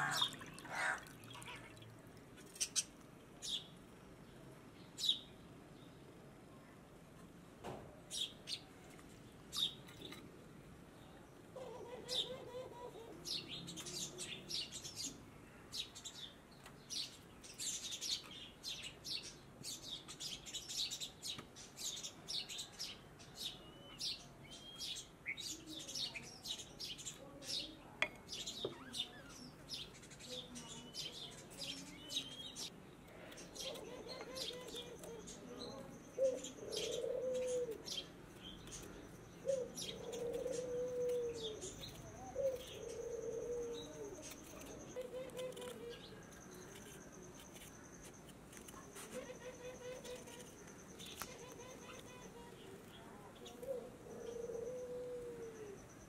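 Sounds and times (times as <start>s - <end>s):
small birds chirping: 0.0s - 6.2s, 8.1s - 56.0s.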